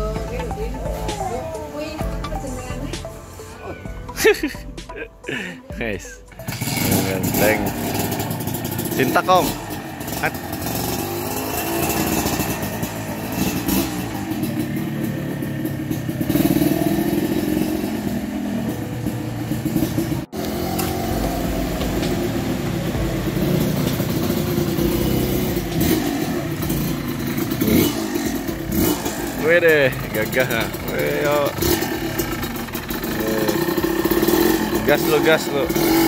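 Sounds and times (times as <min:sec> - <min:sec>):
two-stroke motorbike revving: 0:06.3 - 0:36.0.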